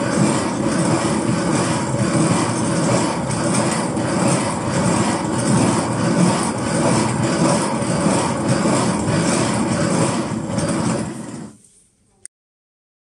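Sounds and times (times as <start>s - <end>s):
millstones grinding grain: 0.0s - 11.6s.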